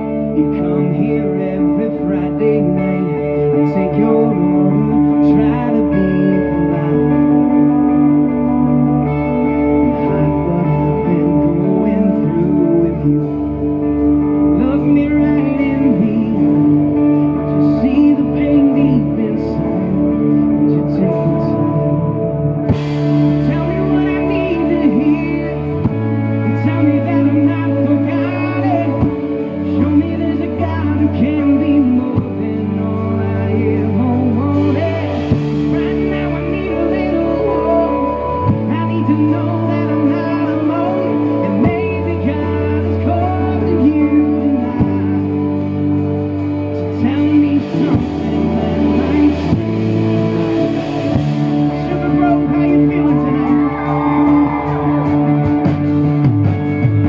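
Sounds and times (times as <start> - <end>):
bass guitar: 0.0 - 57.0
drums: 0.0 - 57.0
electric guitar: 0.0 - 57.0
man singing: 0.0 - 57.0.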